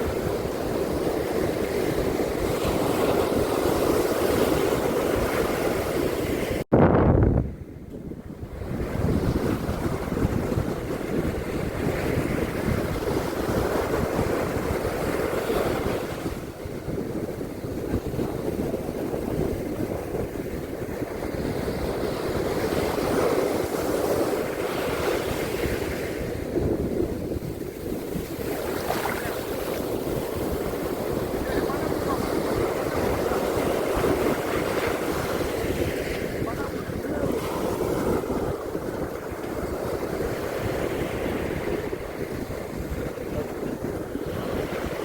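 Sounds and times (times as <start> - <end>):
ocean surf on beach: 0.0 - 6.7, 7.4 - 45.0
wind rumbling on microphone: 0.0 - 45.0.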